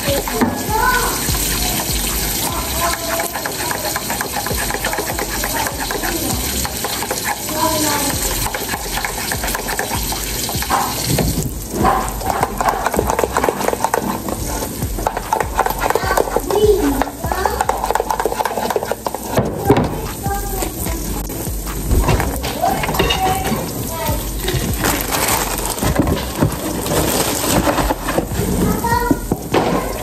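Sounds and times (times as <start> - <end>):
batter being poured: 0.0 - 23.2, 23.8 - 29.3
batter sizzling on a griddle: 0.0 - 30.0
faint voices: 0.0 - 30.0.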